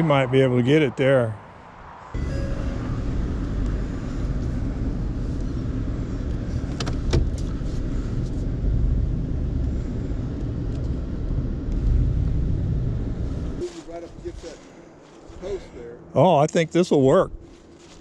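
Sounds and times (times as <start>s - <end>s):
vehicle engine rumbling: 0.0s - 16.1s.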